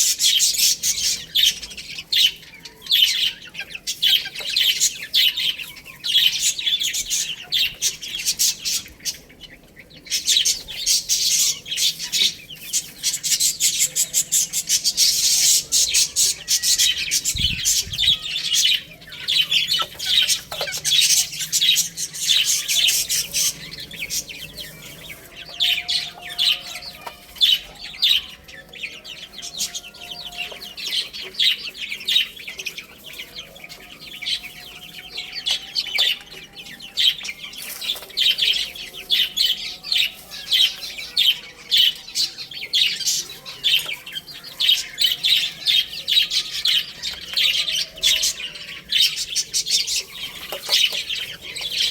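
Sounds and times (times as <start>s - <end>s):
baby chicks peeping and chirping: 0.0s - 51.9s.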